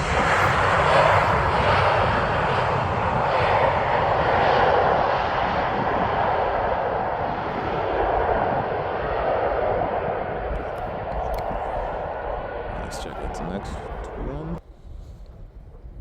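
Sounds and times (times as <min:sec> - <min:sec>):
jet airliner engine rush: 0:00.0 - 0:15.2.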